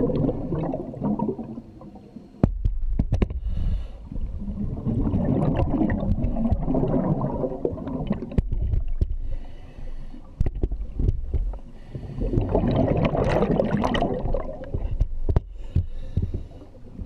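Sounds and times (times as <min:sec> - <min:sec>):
underwater breathing bubbles: 0:00.0 - 0:02.4, 0:03.4 - 0:08.4, 0:09.2 - 0:17.0.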